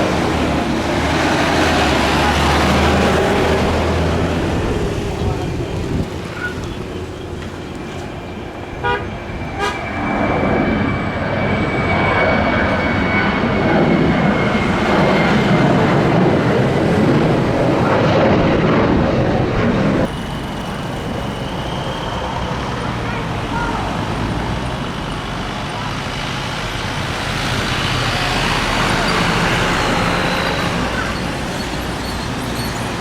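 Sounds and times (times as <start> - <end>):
jet engines roaring: 0.0 - 33.0.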